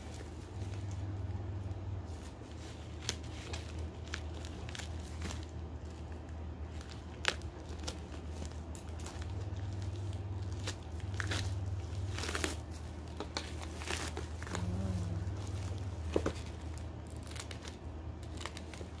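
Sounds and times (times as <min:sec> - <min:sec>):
packaging crinkling and tearing: 0:00.0 - 0:19.0
steady low hum: 0:00.0 - 0:19.0.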